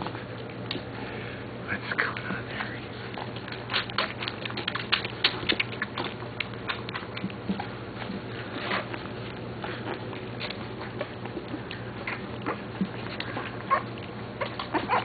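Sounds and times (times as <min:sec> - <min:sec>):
puppies eating clicks: 0:00.0 - 0:01.3, 0:02.0 - 0:15.0.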